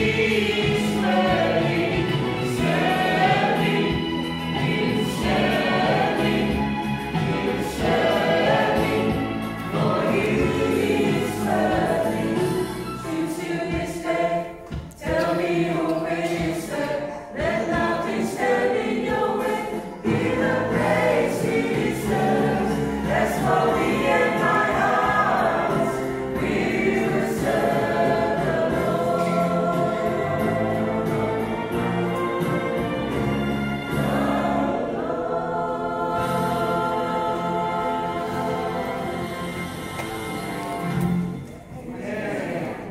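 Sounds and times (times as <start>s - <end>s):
choir singing a hymn: 0.0s - 40.9s, 41.9s - 42.9s.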